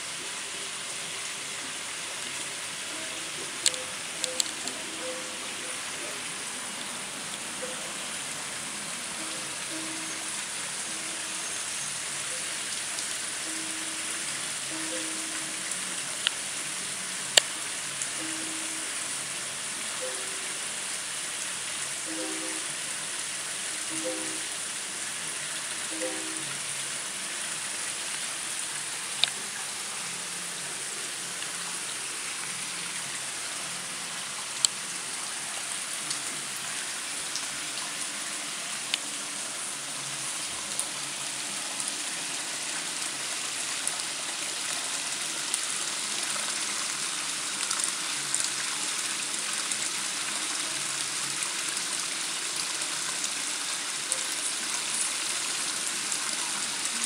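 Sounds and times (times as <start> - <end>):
waterfall splashing into pond: 0.0 - 57.0.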